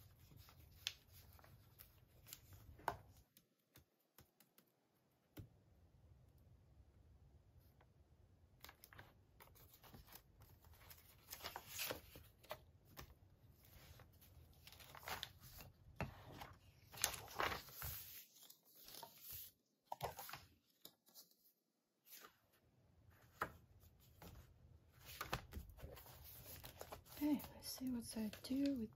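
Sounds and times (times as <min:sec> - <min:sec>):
paper pages rustling and crinkling: 0:00.0 - 0:03.2, 0:08.6 - 0:28.9.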